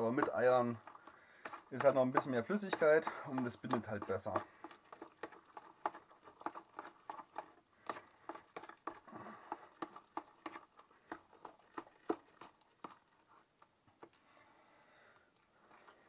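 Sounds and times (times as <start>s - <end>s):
metal utensil scraping bowl: 0.0s - 13.0s
wet mixture being stirred: 0.0s - 16.0s.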